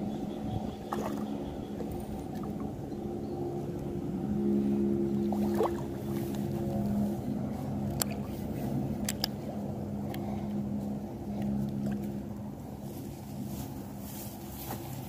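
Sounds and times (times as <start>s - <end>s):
distant engine drone: 0.0s - 15.0s.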